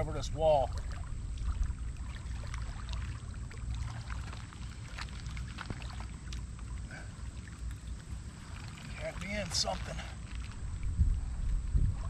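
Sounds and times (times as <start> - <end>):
wind buffeting microphone: 0.0 - 6.0, 7.6 - 12.0.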